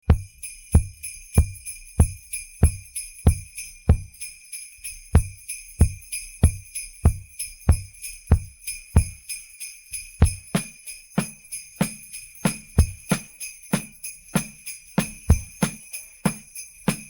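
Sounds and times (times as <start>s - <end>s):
kick drum beat: 0.0s - 9.4s, 10.1s - 17.0s
sleigh bells shaking: 0.0s - 17.0s.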